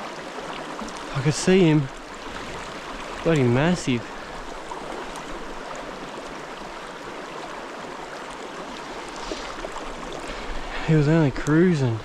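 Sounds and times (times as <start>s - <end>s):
mountain stream flowing: 0.0s - 12.0s.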